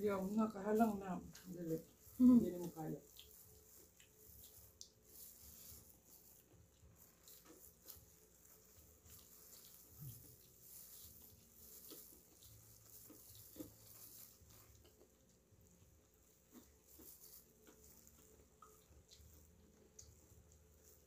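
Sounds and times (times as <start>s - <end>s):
chewing and mouth smacks: 1.2s - 21.0s.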